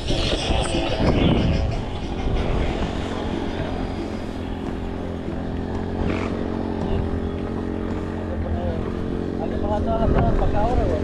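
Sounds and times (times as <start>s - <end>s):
motor humming steadily: 0.0s - 11.0s.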